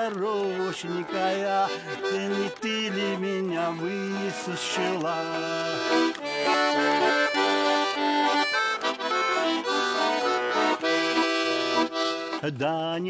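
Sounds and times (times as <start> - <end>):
button accordion playing: 0.0 - 12.8.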